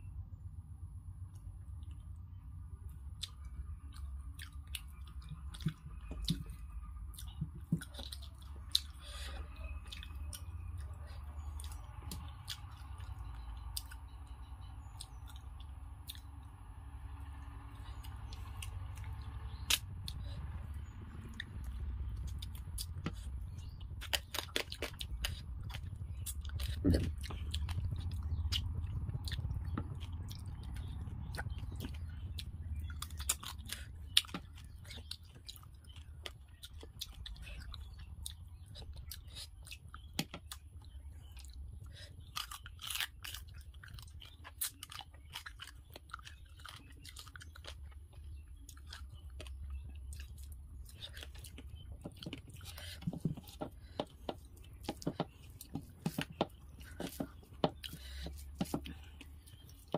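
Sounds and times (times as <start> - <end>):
low steady hum: 0.0 - 59.9
close chewing with mouth clicks: 1.2 - 59.9.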